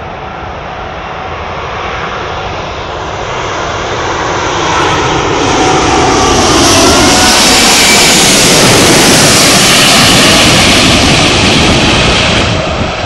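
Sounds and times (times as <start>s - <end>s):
high engine whine: 0.0s - 13.0s
jet engines on approach: 0.0s - 13.0s.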